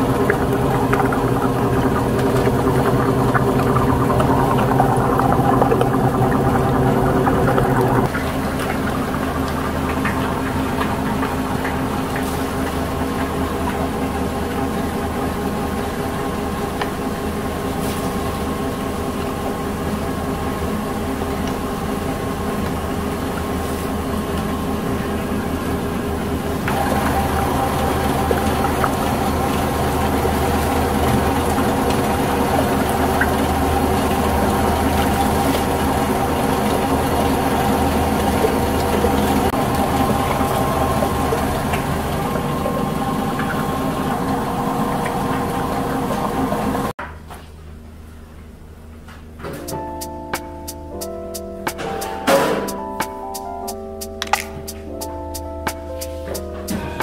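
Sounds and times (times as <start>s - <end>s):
machinery humming: 0.0s - 46.9s, 47.8s - 57.0s.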